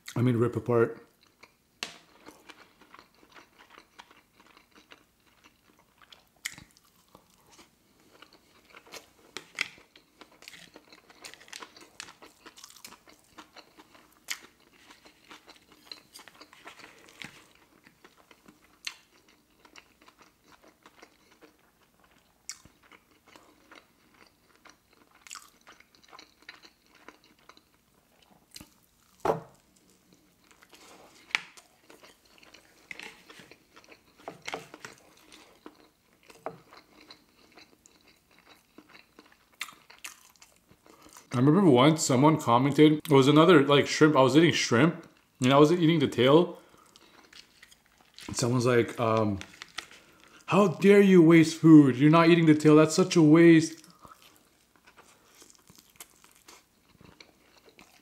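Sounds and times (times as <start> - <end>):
chewing crunchy food: 1.0 - 41.4, 45.0 - 50.5, 53.7 - 58.0.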